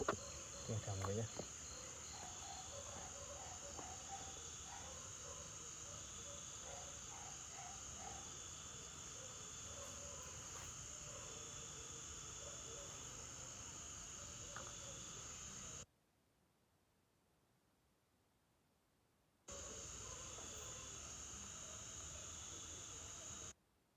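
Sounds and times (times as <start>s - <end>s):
crickets trilling: 0.0s - 15.8s, 19.5s - 23.5s
soft low insect calls: 0.0s - 15.8s, 19.5s - 23.5s.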